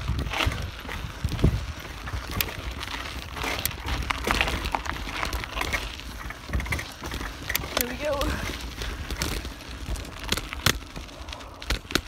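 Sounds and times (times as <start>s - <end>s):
bicycle rattling and clicking: 0.0s - 12.0s
bicycle tyres crunching on dirt: 0.0s - 12.0s
wind rumble on microphone: 0.0s - 12.0s.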